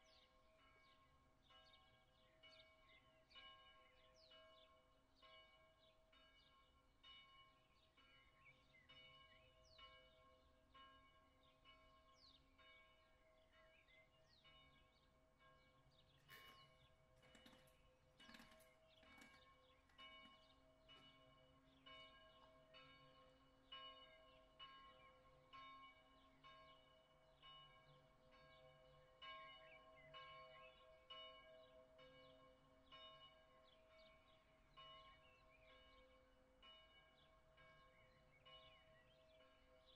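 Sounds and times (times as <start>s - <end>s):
distant church bell ringing: 0.0s - 39.9s.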